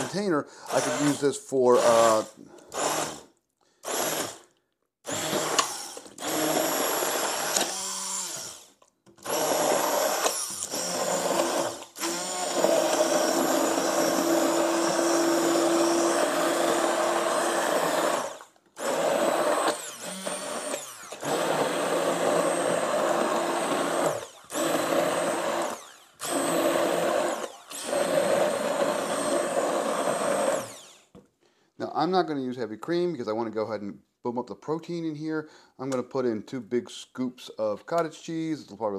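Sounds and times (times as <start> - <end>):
immersion blender pureeing soup: 0.0 - 31.2.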